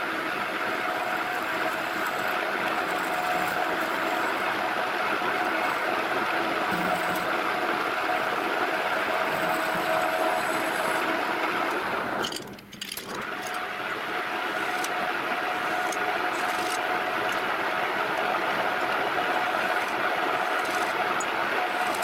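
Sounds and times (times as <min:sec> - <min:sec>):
lathe motor humming and whining: 0:00.0 - 0:12.4, 0:13.0 - 0:22.0.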